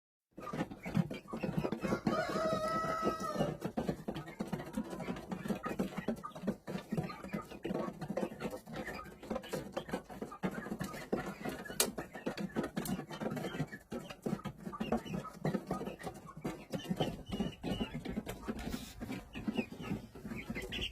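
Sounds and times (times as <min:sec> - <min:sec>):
scratching and rustling: 0:00.4 - 0:20.9.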